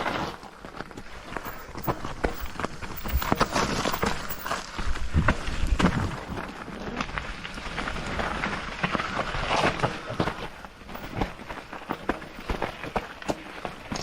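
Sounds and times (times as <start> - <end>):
bike knocks and rattles: 0.0 - 6.6, 7.9 - 14.0
tyre noise on wet ground: 0.0 - 14.0.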